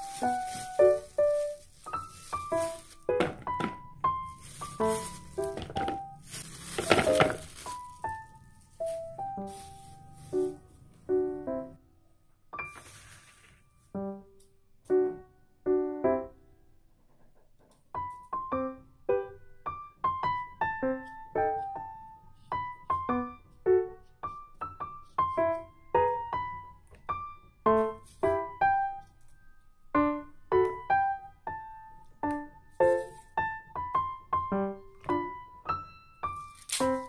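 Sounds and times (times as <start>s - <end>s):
piano music: 0.0s - 16.8s, 17.9s - 37.0s.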